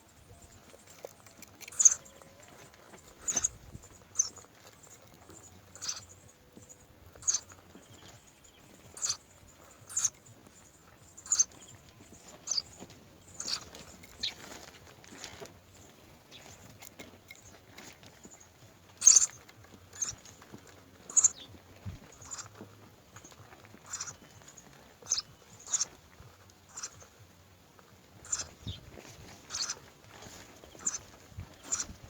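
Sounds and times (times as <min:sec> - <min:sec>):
birds short sharp calls: 0:00.0 - 0:26.0, 0:26.6 - 0:27.2, 0:28.2 - 0:32.0.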